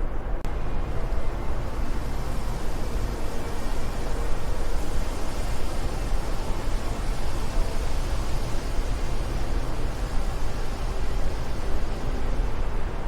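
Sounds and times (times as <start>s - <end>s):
steady wind noise: 0.0s - 13.0s.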